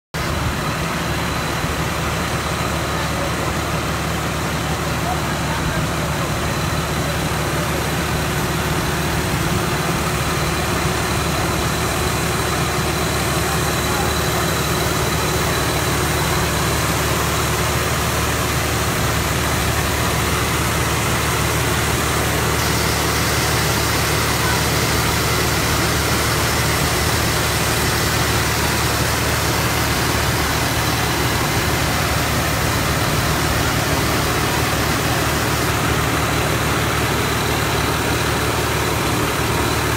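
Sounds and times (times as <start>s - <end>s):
diesel engine running: 0.1s - 39.9s.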